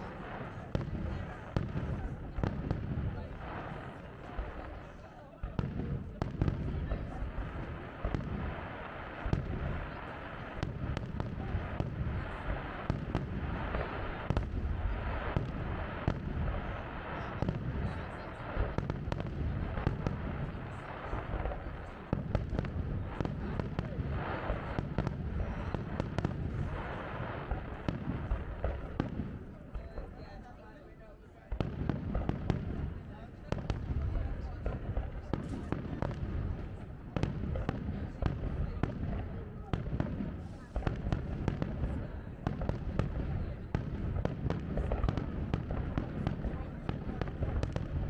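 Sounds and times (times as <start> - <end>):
fireworks bangs and crackles: 0.0 - 48.0
onlookers' voices: 0.0 - 48.0.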